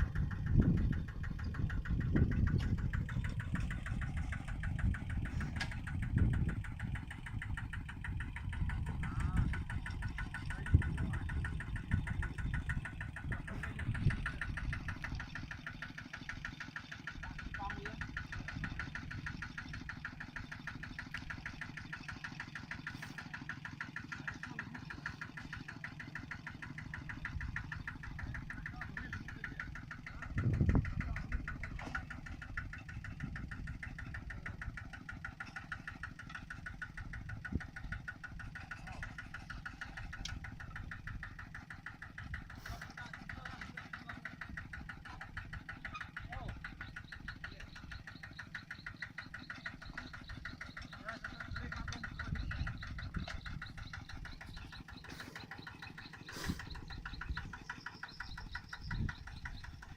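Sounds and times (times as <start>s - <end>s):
small engine running: 0.0s - 59.9s.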